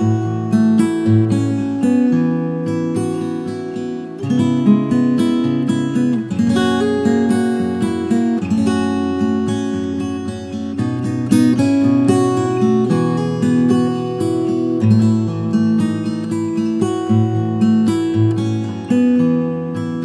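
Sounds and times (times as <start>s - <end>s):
acoustic guitar instrumental: 0.0s - 20.0s.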